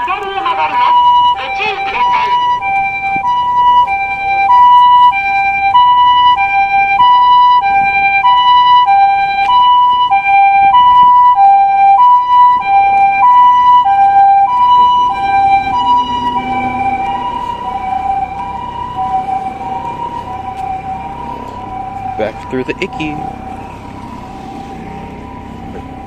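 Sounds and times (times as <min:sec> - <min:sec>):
two-tone ambulance siren: 0:00.0 - 0:26.0.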